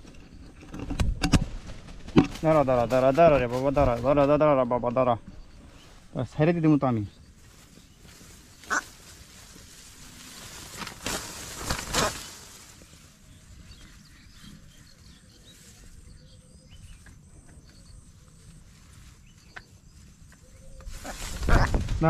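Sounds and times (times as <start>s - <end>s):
rice stalks rustling: 1.4s - 22.0s.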